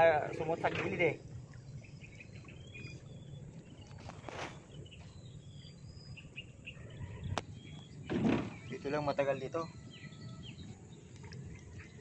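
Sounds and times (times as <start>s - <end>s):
faint birds chirping: 0.0s - 12.0s
outdoor background noise: 0.0s - 12.0s.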